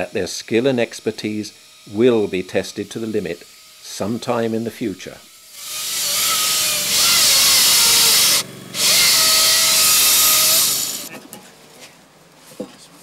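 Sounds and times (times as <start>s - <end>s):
power cutting tool hissing whine: 0.0s - 11.1s.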